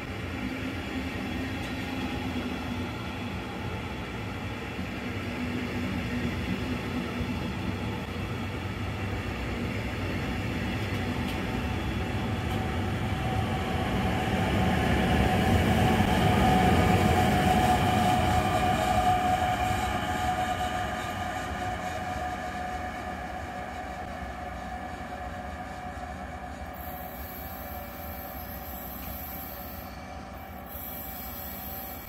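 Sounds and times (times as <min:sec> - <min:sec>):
train rolling: 0:00.0 - 0:32.0.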